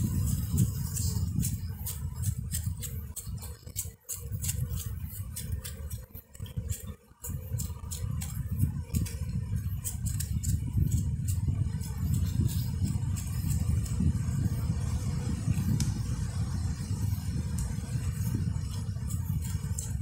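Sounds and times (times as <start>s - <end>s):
feather brushing strokes: 0.0s - 20.0s
wind buffeting microphone: 0.0s - 20.0s.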